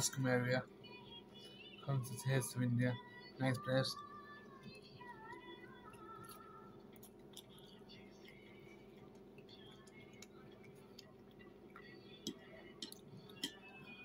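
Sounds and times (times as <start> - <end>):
faint background music: 0.0 - 14.0
low room hum: 0.0 - 14.0.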